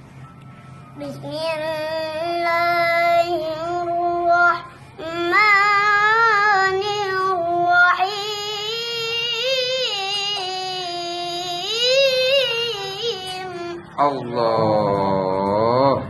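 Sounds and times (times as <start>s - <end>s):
child chanting recitation: 1.0s - 16.0s.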